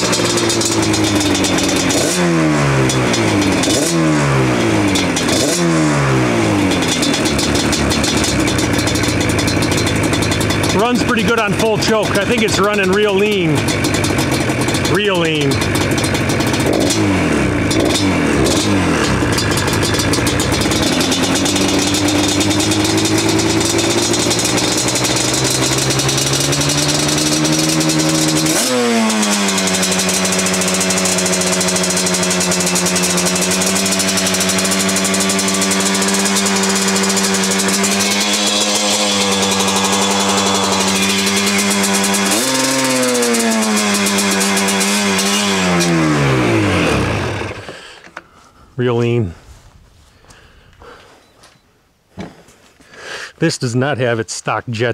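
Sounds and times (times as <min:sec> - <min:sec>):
two-stroke engine revving: 0:00.0 - 0:48.0.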